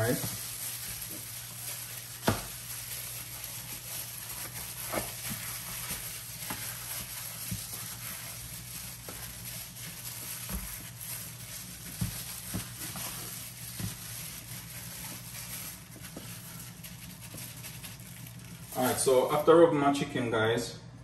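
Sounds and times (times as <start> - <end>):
wet rubbing on raw chicken: 0.0 - 19.3.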